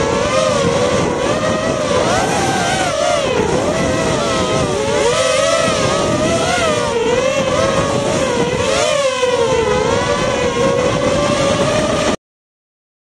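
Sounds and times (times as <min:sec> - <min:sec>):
quadcopter motors whining: 0:00.0 - 0:12.2.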